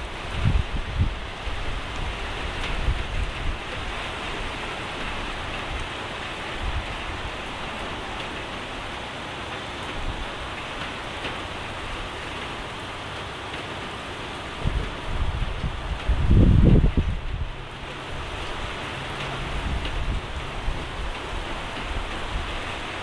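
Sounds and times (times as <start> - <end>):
rain on wet pavement: 0.0 - 23.0
wind buffeting microphone: 0.0 - 23.0.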